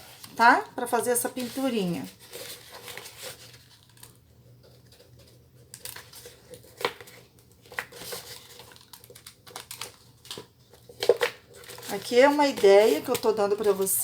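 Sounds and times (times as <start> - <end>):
soft rustling of foam and plastic: 0.0 - 14.0.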